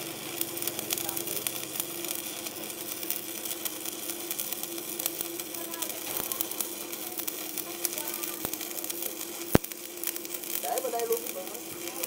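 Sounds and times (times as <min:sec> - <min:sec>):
steady hum: 0:00.0 - 0:12.0
welding arc crackling: 0:00.0 - 0:12.0.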